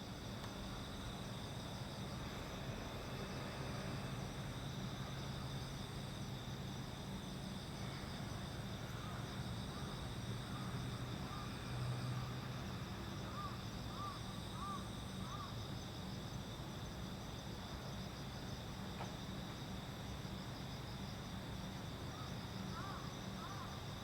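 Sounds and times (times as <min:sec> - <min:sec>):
night insects chirring: 0:00.0 - 0:24.0.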